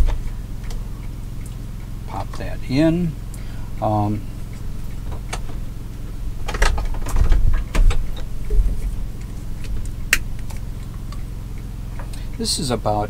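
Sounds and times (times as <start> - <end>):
generator humming: 0.0 - 13.0.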